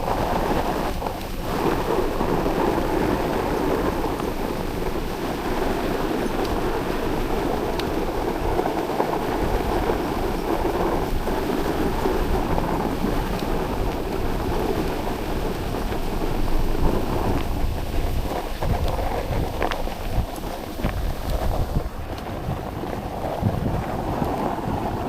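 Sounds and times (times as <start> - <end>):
sled runners scraping snow: 0.0 - 25.0
wind on microphone: 0.0 - 25.0.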